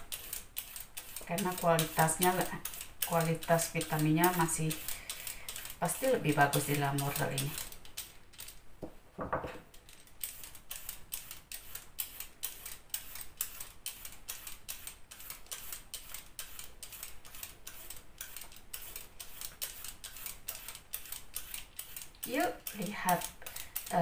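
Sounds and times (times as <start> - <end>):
peeler scraping a carrot: 0.0 - 8.6, 9.8 - 24.0.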